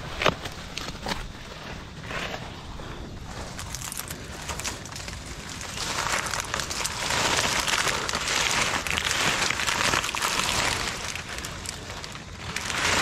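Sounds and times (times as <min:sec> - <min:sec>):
palm fronds rustling and scraping: 0:00.0 - 0:13.0.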